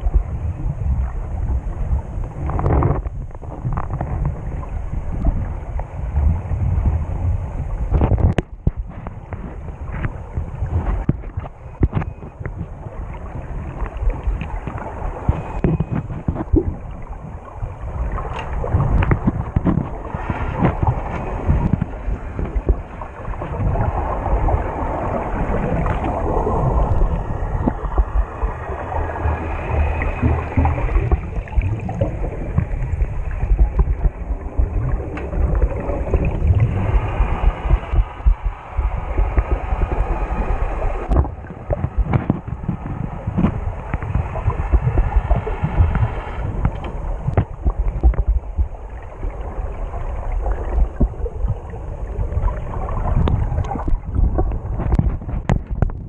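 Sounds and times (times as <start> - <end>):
muffled underwater rumbling: 0.0 - 56.0
faint clicks and crackles: 2.2 - 5.9, 7.9 - 17.5, 18.1 - 38.5, 40.7 - 51.8, 52.4 - 56.0.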